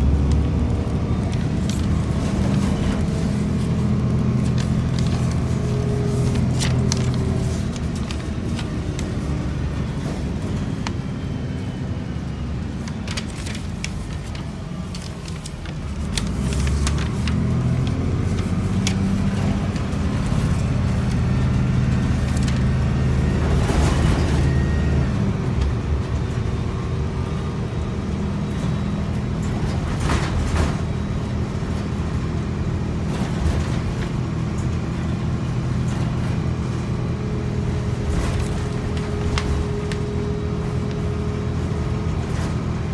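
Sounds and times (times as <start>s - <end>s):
bus engine drone: 0.0s - 42.9s.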